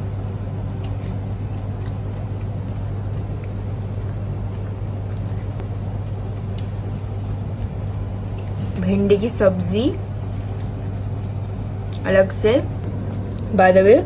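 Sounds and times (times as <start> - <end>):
appliance fan rushing: 0.0 - 14.0
low electrical hum: 0.0 - 14.0.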